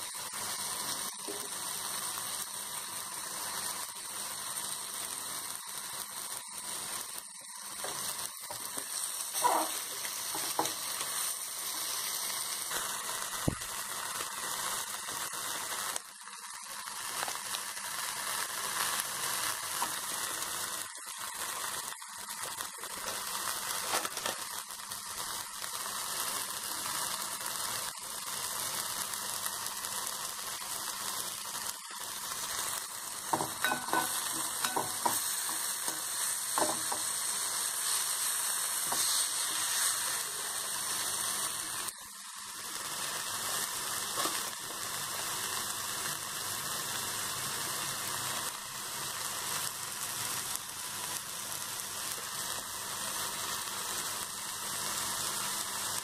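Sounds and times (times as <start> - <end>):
onion and tomato sizzling: 0.0 - 56.0.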